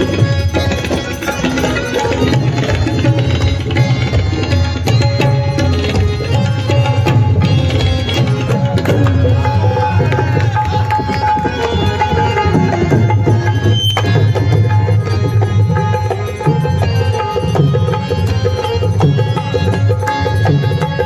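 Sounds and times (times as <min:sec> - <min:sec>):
harmonium notes: 0:00.0 - 0:21.0
tabla and dholak drumming: 0:00.0 - 0:21.0.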